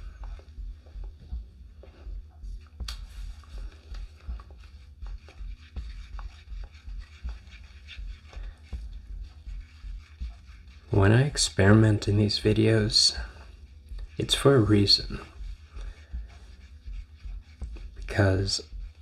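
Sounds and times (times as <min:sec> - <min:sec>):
stirrer scraping in cup: 0:02.6 - 0:19.0.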